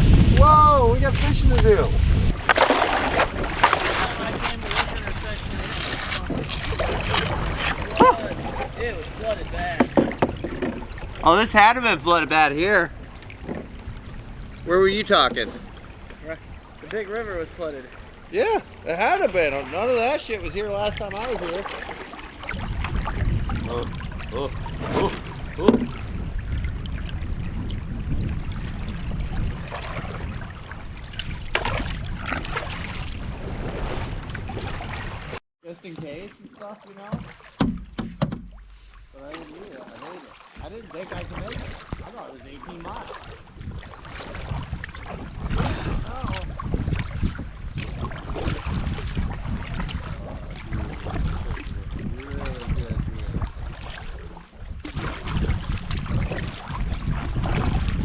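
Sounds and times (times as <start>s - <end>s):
wind buffeting microphone: 0.0s - 35.4s, 40.6s - 58.0s
water swishing around canoe: 0.0s - 58.0s.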